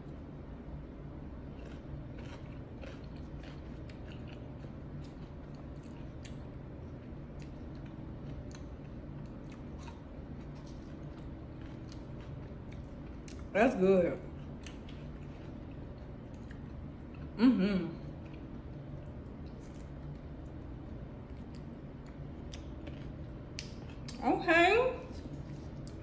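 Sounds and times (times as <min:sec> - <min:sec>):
steady low hum: 0:00.0 - 0:26.0
soft crunchy chewing: 0:01.2 - 0:13.6, 0:14.2 - 0:17.4, 0:18.0 - 0:24.3, 0:25.0 - 0:26.0.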